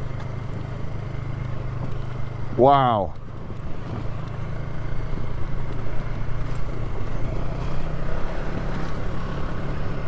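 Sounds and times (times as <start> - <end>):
quad engine running: 0.0 - 10.0.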